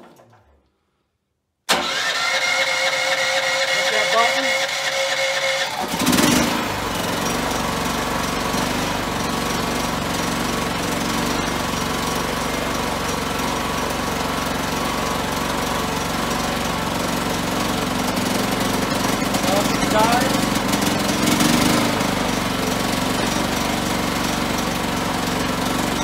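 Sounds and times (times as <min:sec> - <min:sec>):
generator engine cranking: 0:01.7 - 0:26.0
generator engine running: 0:01.7 - 0:26.0.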